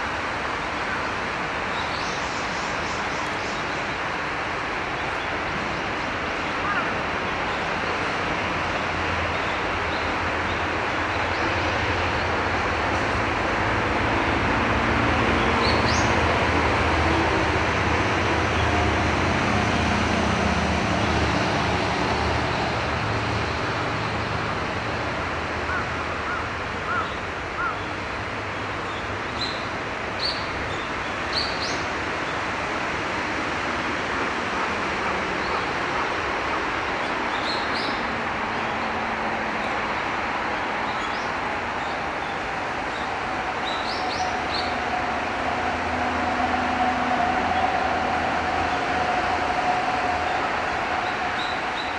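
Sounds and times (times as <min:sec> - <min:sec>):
river flowing: 0:00.0 - 0:51.9.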